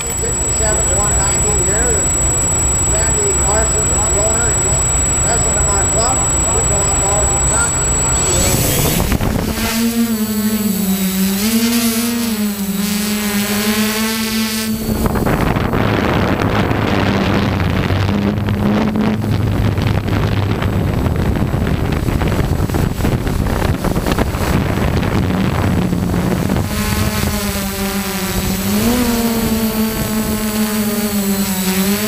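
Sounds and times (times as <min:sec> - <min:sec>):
drone motors and propellers whining: 0:00.0 - 0:32.0
faint steady hum: 0:00.0 - 0:32.0.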